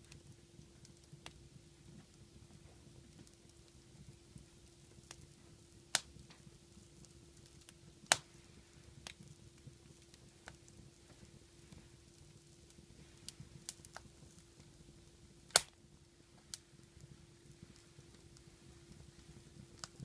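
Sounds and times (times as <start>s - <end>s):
faint steady hum: 0.0s - 20.0s
fire popping: 0.0s - 20.0s
wood fire crackling: 0.0s - 20.0s.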